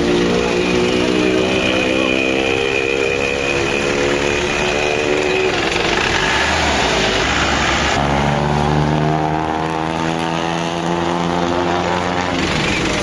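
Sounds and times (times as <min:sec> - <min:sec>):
diesel engine revving: 0:00.0 - 0:13.0.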